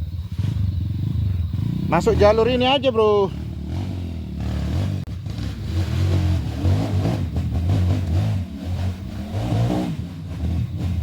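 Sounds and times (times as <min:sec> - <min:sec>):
dirt bike engine revving: 0:00.2 - 0:11.0.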